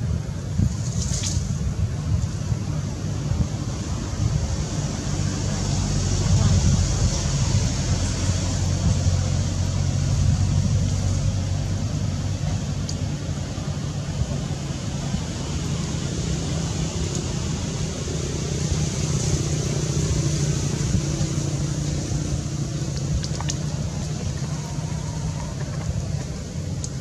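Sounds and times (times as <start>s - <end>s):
constant hiss: 0.0s - 27.0s
low mechanical hum: 0.0s - 27.0s.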